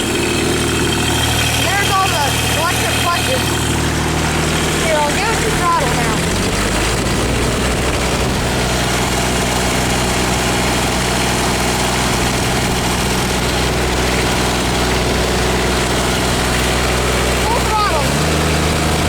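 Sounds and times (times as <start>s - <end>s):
mower diesel engine running: 0.0s - 19.0s.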